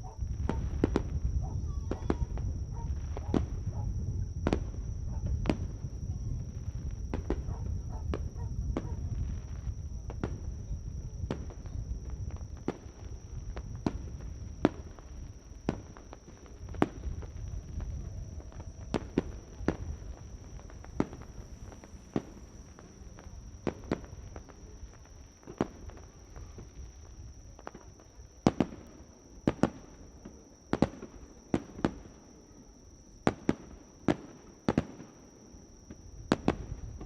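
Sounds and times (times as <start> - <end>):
fireworks bangs and cracks: 0.2 - 32.2, 33.2 - 35.3, 35.9 - 37.0.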